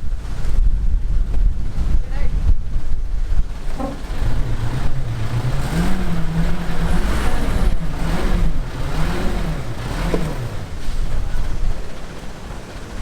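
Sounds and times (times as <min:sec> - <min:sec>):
vehicle engine running: 0:02.5 - 0:13.0.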